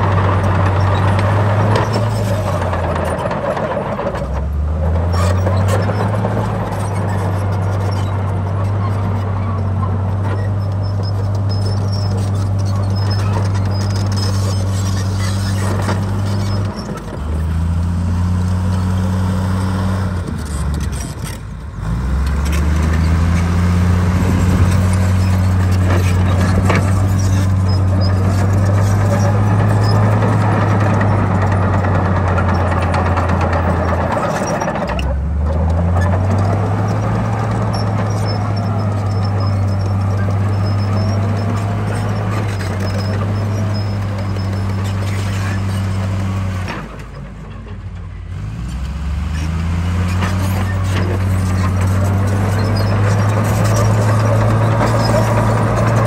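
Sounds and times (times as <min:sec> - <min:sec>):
heavy diesel engine working: 0:00.0 - 0:56.0.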